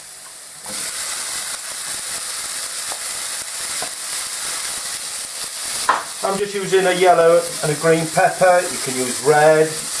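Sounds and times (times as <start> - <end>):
peppers sizzling in a frying pan: 0.0 - 10.0.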